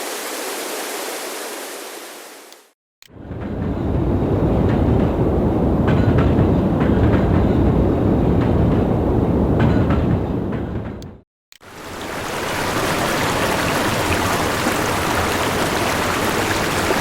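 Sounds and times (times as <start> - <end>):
train rumbling on rails: 3.1 - 17.0.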